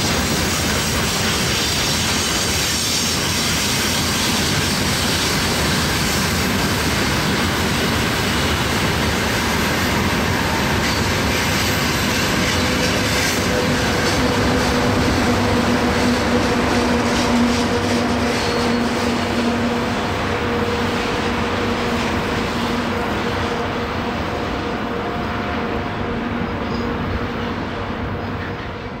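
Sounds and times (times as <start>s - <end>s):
locomotive hum: 0.0s - 29.0s
train wheels rolling on rail: 0.0s - 29.0s.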